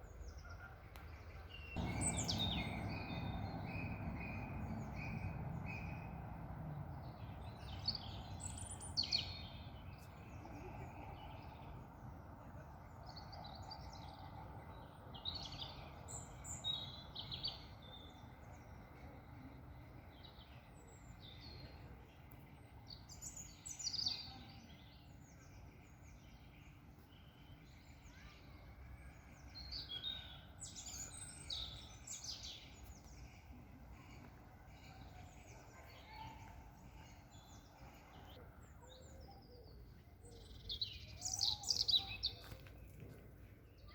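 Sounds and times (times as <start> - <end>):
birds chirping and singing: 0.0 - 12.0, 12.9 - 43.0
faint outdoor background hum: 0.0 - 43.9.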